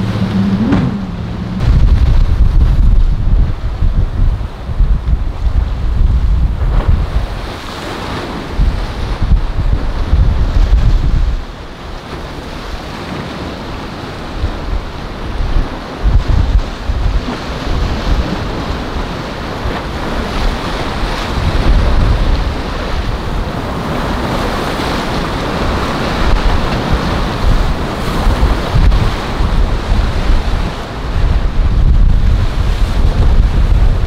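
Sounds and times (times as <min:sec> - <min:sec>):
surf breaking: 0:00.0 - 0:34.0
wind buffeting microphone: 0:00.0 - 0:34.0.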